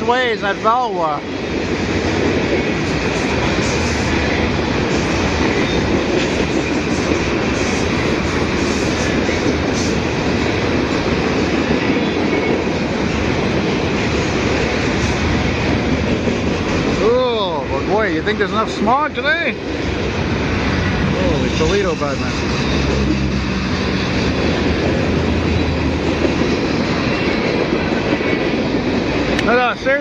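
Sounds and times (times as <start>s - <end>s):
freight cars rattling: 0.0s - 30.0s.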